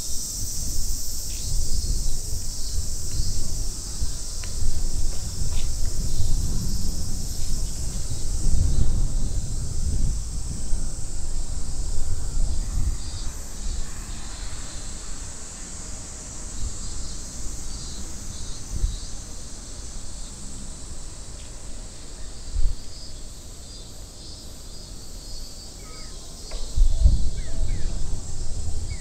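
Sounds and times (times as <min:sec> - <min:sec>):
wind rumble on microphone: 0:00.0 - 0:23.3, 0:26.5 - 0:29.0
cicadas droning: 0:00.0 - 0:29.0.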